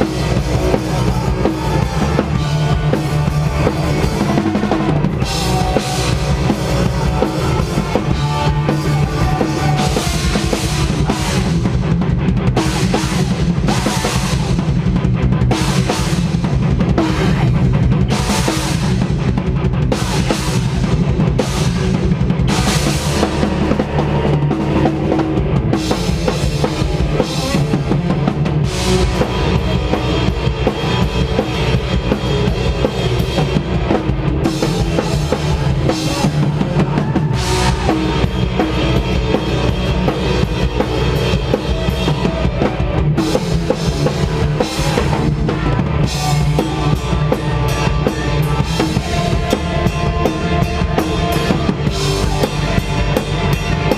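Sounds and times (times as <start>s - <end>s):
bass drum: 0.0s - 53.9s
heavy rock band playing live: 0.0s - 53.9s.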